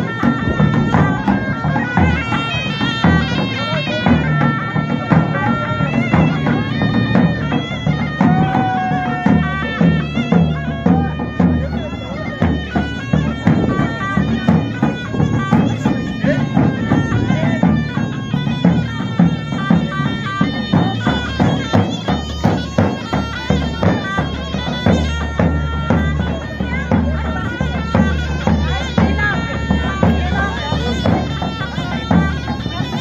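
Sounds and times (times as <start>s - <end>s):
steady drum beat: 0.0s - 33.0s
zurna playing folk melody: 0.0s - 33.0s.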